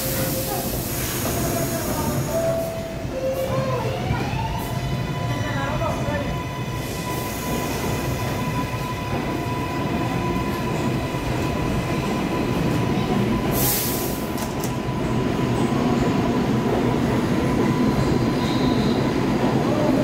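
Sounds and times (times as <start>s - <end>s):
subway train rumbling: 0.0s - 20.0s.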